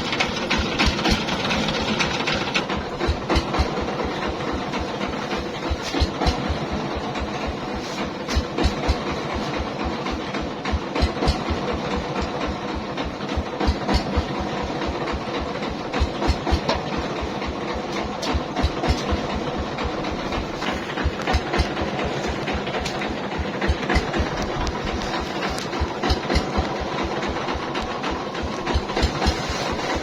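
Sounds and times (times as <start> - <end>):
engine pulsing with low thumps: 0.0 - 30.0
mill clattering and rattling: 0.0 - 30.0.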